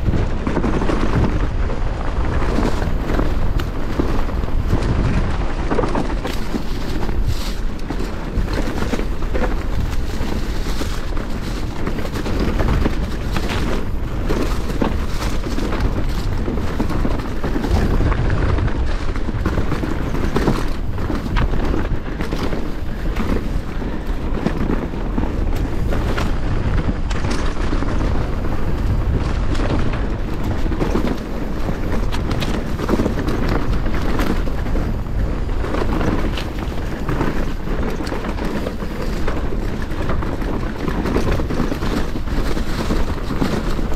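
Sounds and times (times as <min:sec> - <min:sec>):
bike rattling over bumps: 0:00.0 - 0:43.9
tyre roar on dirt: 0:00.0 - 0:43.9
wind rush over camera: 0:00.0 - 0:43.9.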